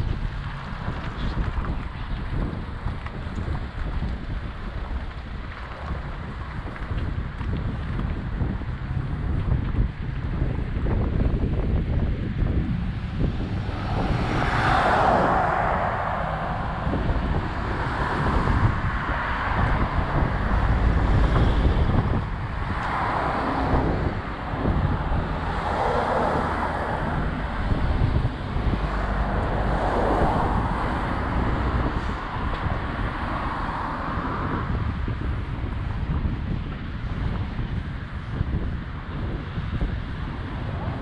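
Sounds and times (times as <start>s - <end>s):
cars passing: 0.0s - 41.0s
street traffic: 0.0s - 41.0s
wind buffeting microphone: 0.0s - 41.0s.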